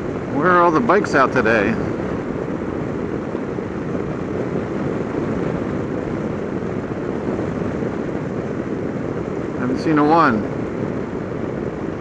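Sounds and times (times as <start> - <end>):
wind rush: 0.0 - 12.0.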